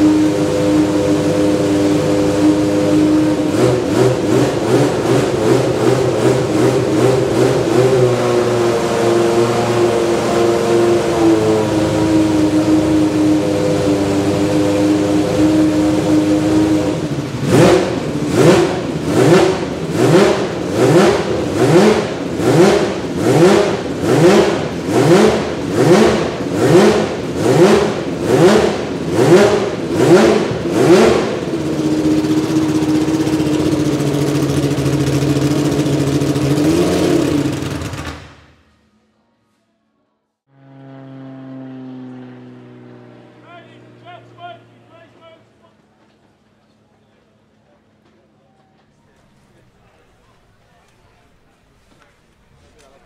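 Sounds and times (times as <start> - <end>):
race car engine idling and revving: 0.0 - 53.0.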